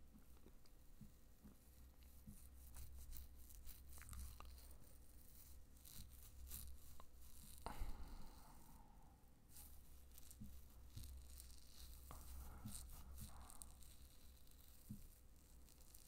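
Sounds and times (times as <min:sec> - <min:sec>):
soft rustling: 0:00.0 - 0:08.7, 0:09.5 - 0:16.0
low room hum: 0:00.0 - 0:16.0.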